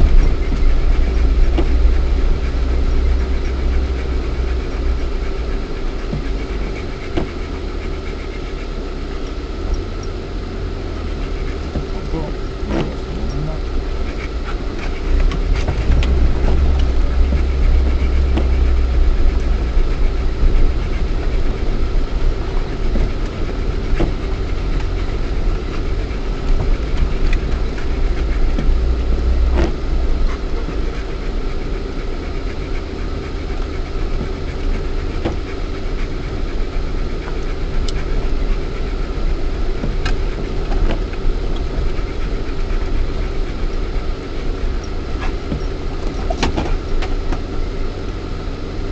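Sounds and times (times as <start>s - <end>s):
car engine rumbling off-road: 0.0s - 48.9s.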